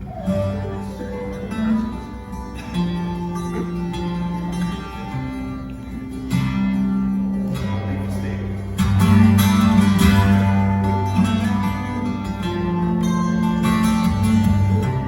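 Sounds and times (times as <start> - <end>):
long held bass notes: 0.0 - 15.0
plucked acoustic guitar: 0.0 - 15.0.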